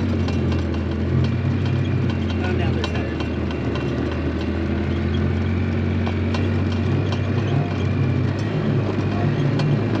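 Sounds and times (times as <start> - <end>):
clicks and clanks: 0.0 - 10.0
vehicle engine running: 0.0 - 10.0.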